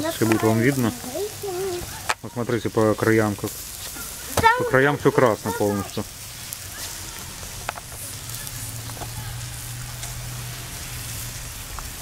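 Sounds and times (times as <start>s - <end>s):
fat crackling on coals: 0.0s - 12.0s
sausages sizzling on grill: 0.0s - 12.0s.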